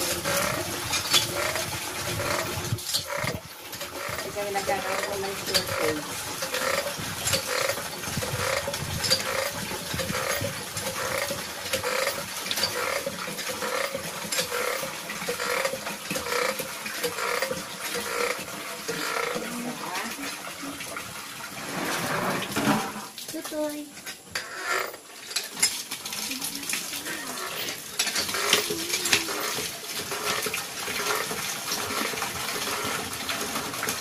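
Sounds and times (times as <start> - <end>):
hand water pump squeaking: 0.0 - 22.5, 24.0 - 34.0
water gushing into a basin: 0.0 - 34.0.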